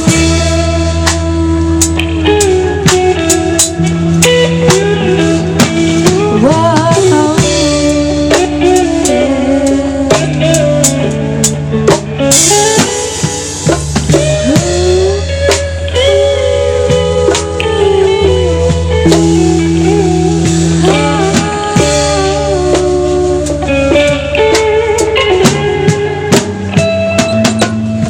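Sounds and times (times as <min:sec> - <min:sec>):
bass line: 0:00.0 - 0:28.0
drum kit steady beat: 0:00.0 - 0:28.0
electric guitar bending notes: 0:00.0 - 0:28.0.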